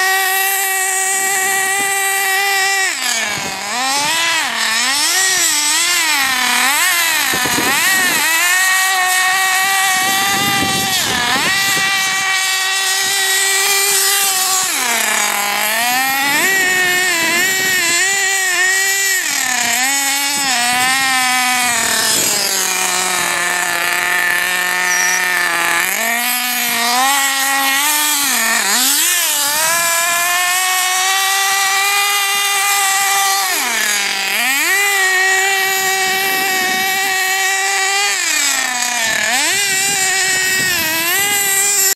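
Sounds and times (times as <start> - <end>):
small glow engine buzzing: 0.0 - 41.9.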